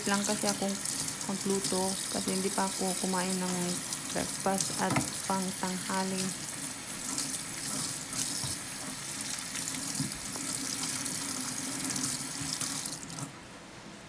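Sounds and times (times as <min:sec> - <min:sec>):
tap water running into sink: 0:00.0 - 0:13.3.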